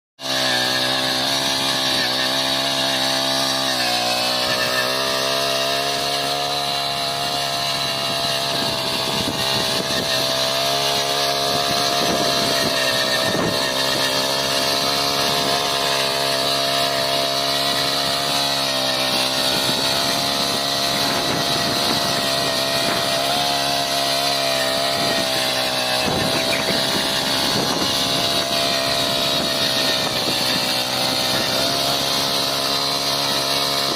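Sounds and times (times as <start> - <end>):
small petrol engine running: 0.2 - 33.9.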